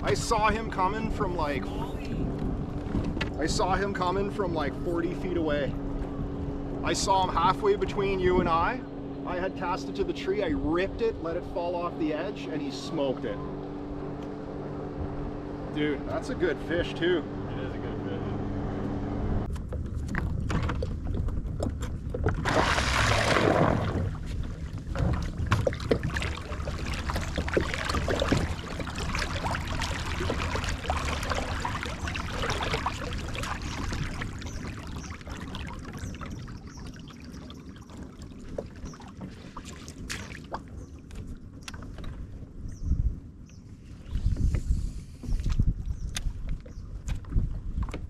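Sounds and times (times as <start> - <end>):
water splashing around boat: 0.0 - 48.0.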